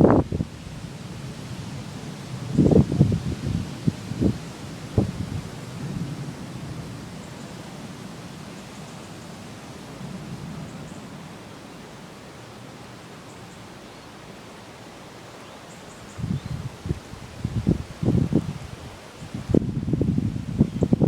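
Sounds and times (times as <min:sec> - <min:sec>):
wind and rain rushing: 0:00.0 - 0:21.0.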